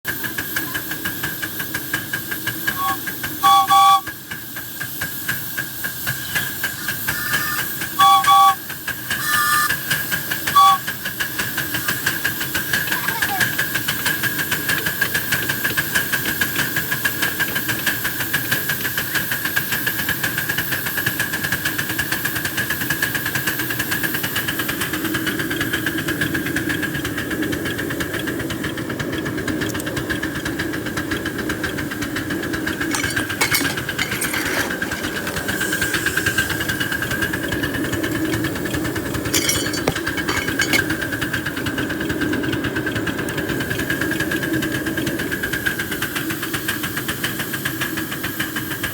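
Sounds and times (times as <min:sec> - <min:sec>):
steam locomotive exhaust beats: 0:00.1 - 0:32.9, 0:41.2 - 0:48.9.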